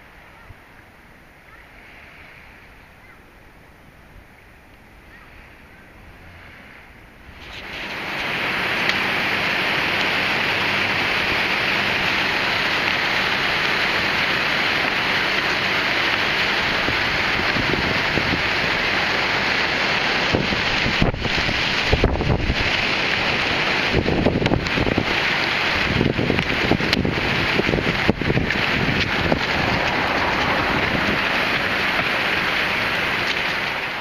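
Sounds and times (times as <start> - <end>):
wind rushing through trees: 0.0 - 34.0.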